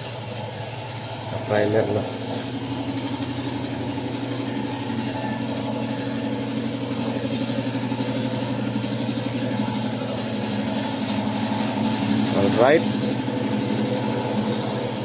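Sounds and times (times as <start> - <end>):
air compressor humming: 0.0 - 15.0
spray gun hissing: 2.1 - 15.0.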